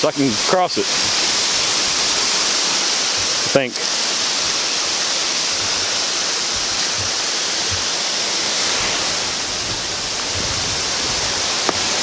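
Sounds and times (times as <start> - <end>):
waterfall and rushing river: 0.0 - 12.0.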